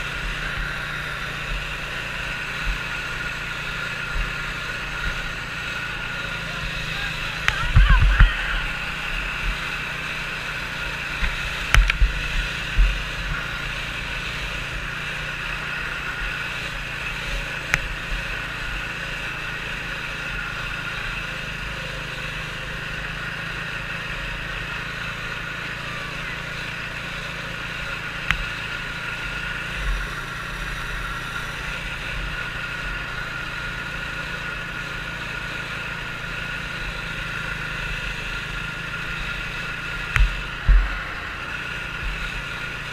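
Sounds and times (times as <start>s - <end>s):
snowmobile engine whine: 0.0s - 42.9s.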